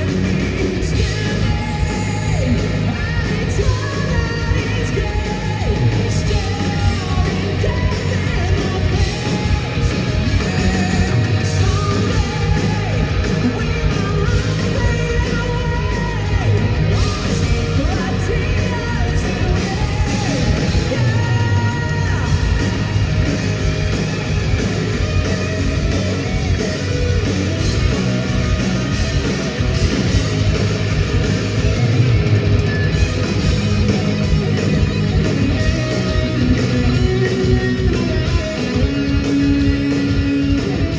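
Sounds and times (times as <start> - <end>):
bass guitar: 0.0 - 40.9
distorted electric guitars: 0.0 - 40.9
drums: 0.0 - 40.9.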